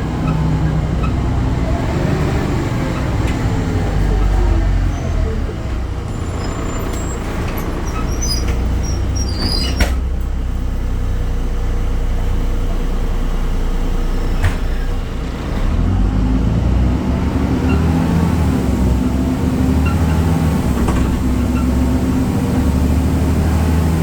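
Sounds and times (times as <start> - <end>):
bus diesel engine droning: 0.0 - 24.0
road noise: 0.0 - 24.0.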